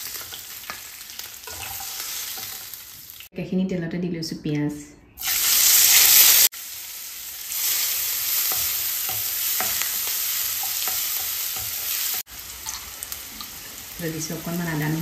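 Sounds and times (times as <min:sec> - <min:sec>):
onions sizzling in oil: 0:00.0 - 0:03.3, 0:05.2 - 0:15.0.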